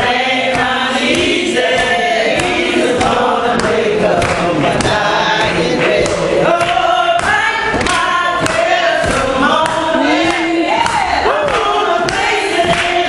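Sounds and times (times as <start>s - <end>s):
gospel singing: 0.0s - 13.0s
hands clapping: 0.0s - 13.0s.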